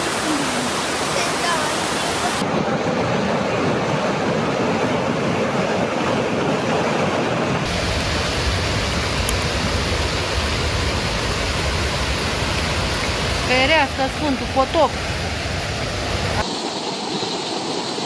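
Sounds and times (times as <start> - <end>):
floodwater rushing: 0.0 - 16.4.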